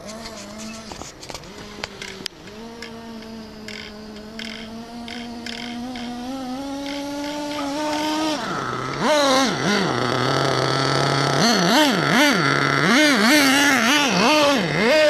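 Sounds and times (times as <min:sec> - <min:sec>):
small nitro engine revving: 0:00.0 - 0:15.0.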